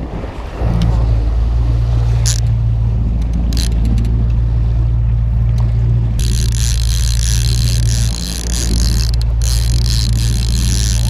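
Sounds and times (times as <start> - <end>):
boat engine droning: 0.6 - 11.0.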